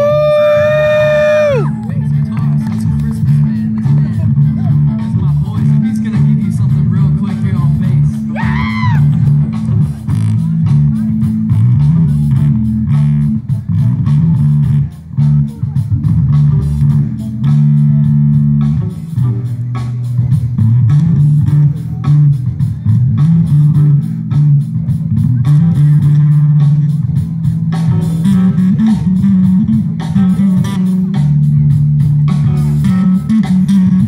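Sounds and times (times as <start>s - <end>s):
bass guitar: 0.0s - 34.0s
drum kit beat: 0.0s - 34.0s.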